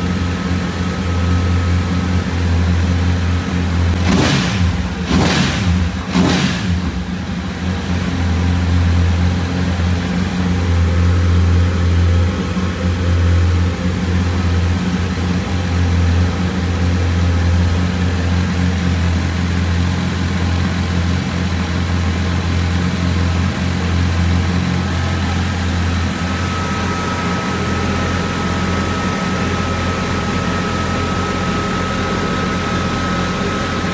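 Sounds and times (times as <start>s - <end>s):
motorcycle engine revving and idling: 0.0s - 33.9s.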